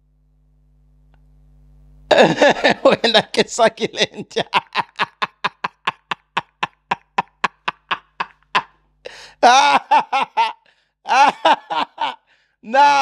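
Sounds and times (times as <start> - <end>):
man laughing hard: 2.1 - 13.0.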